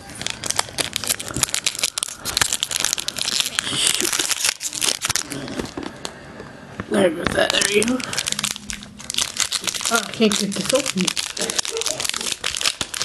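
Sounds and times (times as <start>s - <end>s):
foil wrapper crinkling: 0.0s - 6.2s, 7.3s - 13.0s.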